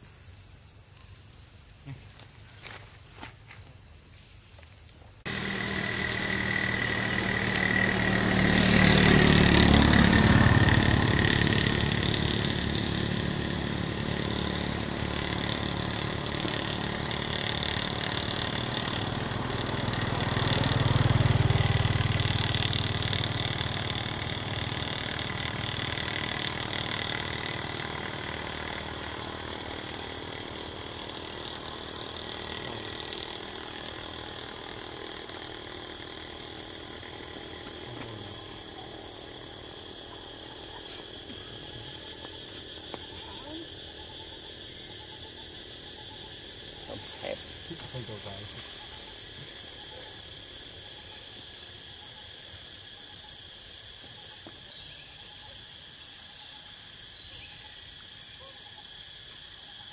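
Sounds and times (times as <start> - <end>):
vehicles passing by: 5.3 - 54.0.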